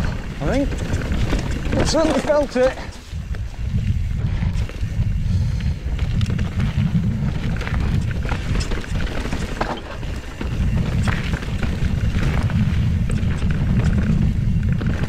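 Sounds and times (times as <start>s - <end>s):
bike rattling over rocks: 0.0s - 15.0s
wind rumble on microphone: 0.0s - 15.0s.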